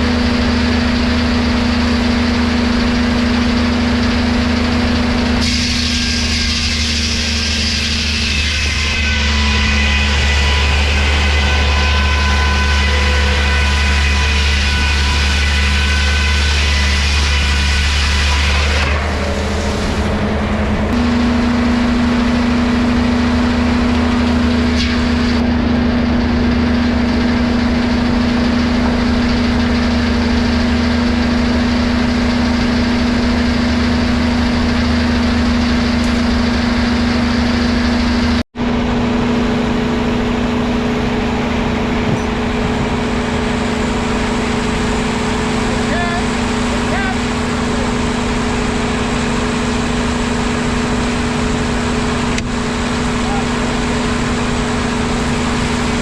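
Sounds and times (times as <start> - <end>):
engine humming steadily: 0.0 - 56.0.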